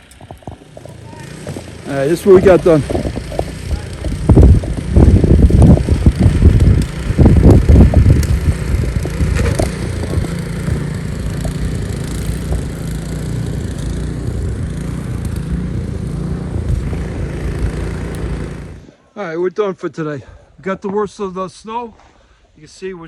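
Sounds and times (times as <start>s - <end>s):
snowblower engine running: 0.0s - 18.9s.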